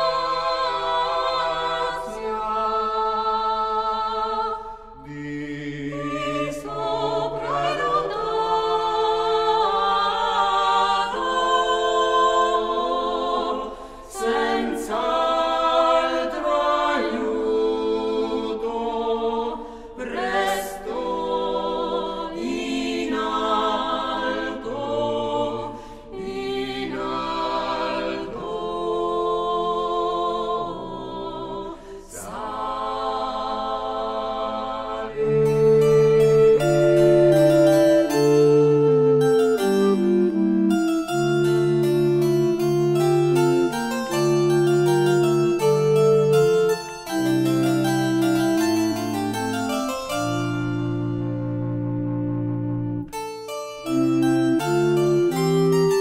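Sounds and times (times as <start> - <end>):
choir singing long chords: 0.0 - 53.2.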